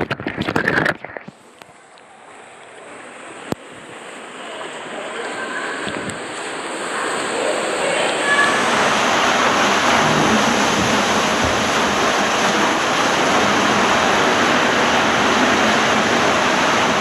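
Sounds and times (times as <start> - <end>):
water churning rush: 2.1 - 17.0.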